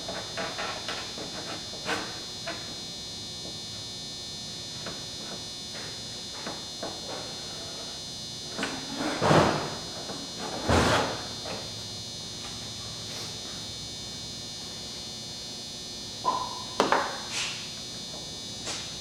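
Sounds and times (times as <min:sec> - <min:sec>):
high-pitched electrical whine: 0:00.0 - 0:19.0.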